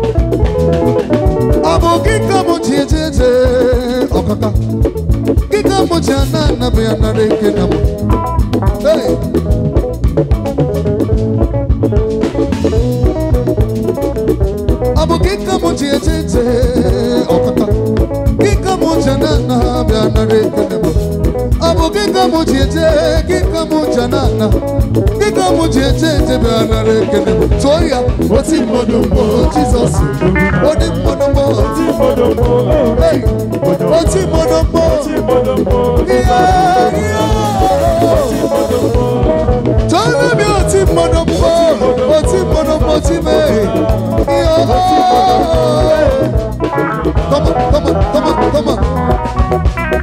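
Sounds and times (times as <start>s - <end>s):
bass guitar: 0.0s - 50.0s
drum kit: 0.0s - 50.0s
electric keyboard: 0.0s - 50.0s
live band playing: 0.0s - 50.0s.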